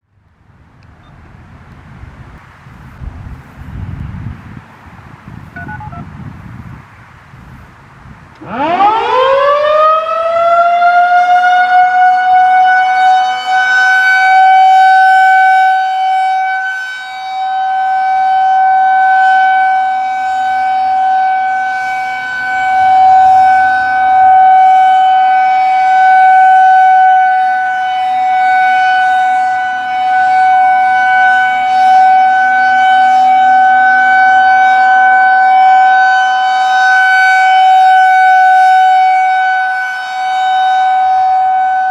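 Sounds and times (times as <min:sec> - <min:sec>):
outdoor warning siren: 0:05.5 - 0:06.3, 0:08.3 - 0:41.9.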